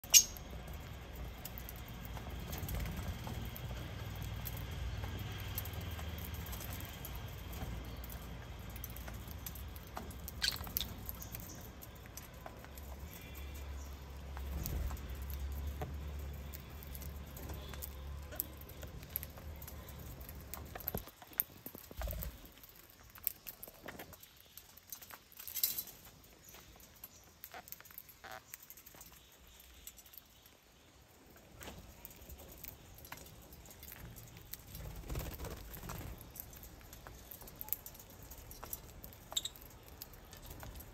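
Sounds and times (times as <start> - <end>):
birds cracking seeds: 0.0 - 40.9.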